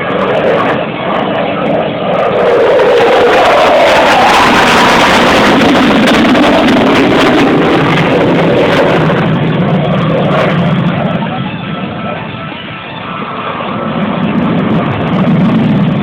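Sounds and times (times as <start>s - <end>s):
jet passing by: 0.0s - 16.0s.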